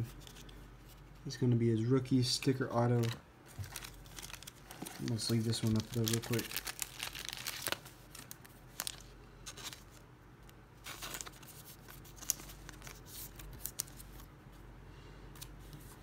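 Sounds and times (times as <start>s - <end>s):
cards rustling and clicking: 0.0s - 1.2s, 2.4s - 14.3s.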